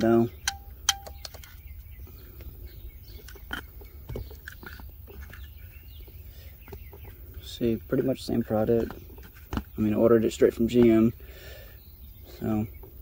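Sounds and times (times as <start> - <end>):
plastic housings clicking and tapping: 0.0 - 11.1.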